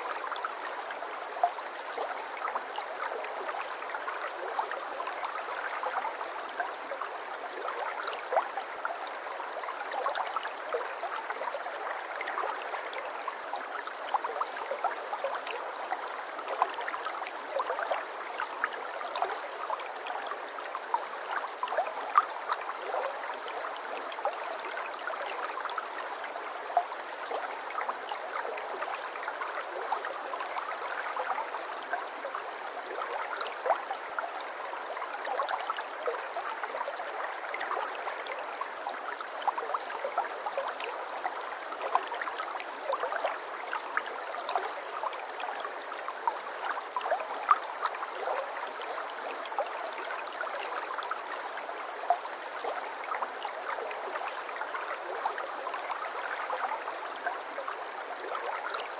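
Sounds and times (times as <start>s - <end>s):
stream running over stones: 0.0s - 58.9s.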